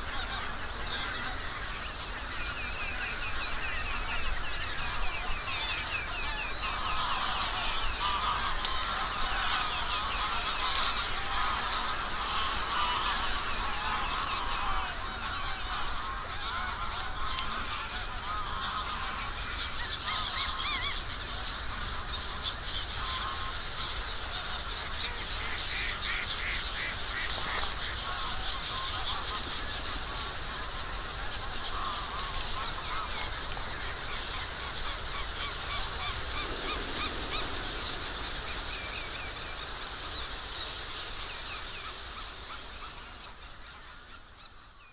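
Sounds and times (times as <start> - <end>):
flock of birds calling: 0.0 - 44.9.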